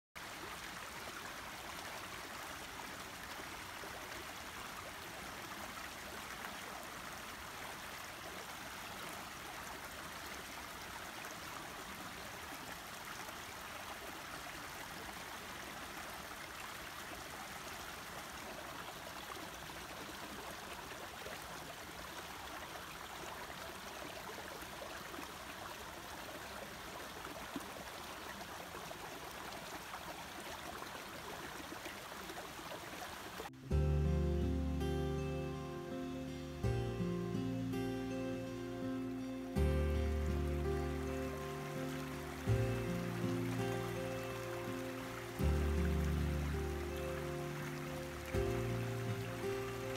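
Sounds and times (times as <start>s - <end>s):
stream flowing: 0.2s - 49.9s.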